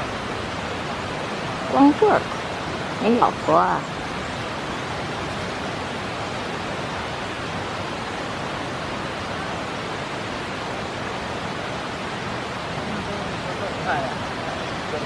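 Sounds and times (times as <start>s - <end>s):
steady even hiss: 0.0s - 15.0s.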